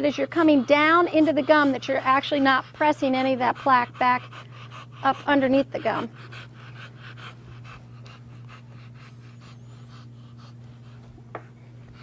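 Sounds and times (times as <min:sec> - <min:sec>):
dog panting: 0:00.0 - 0:12.0
steady low hum: 0:00.0 - 0:12.0.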